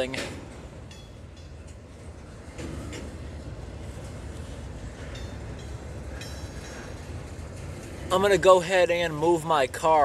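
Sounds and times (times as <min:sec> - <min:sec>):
freight train rumbling on rails: 0:00.0 - 0:10.0.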